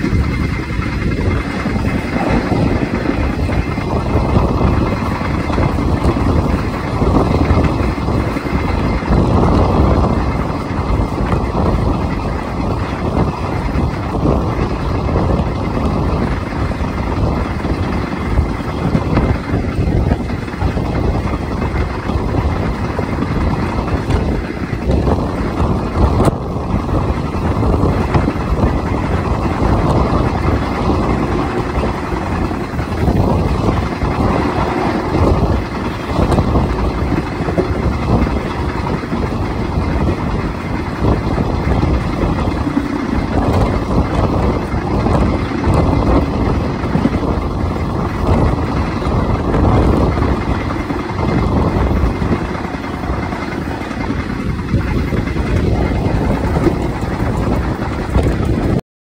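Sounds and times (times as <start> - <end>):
moving train rumble: 0.0 - 58.8.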